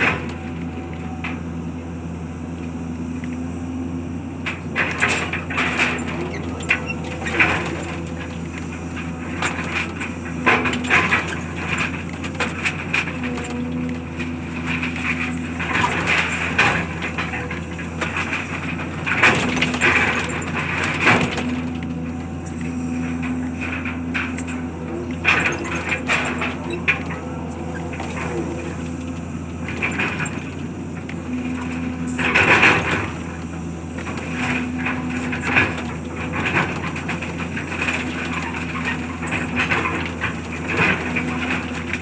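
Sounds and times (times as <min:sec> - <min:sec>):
engine running: 0:00.0 - 0:42.0
debris cracking and crunching: 0:04.3 - 0:42.0.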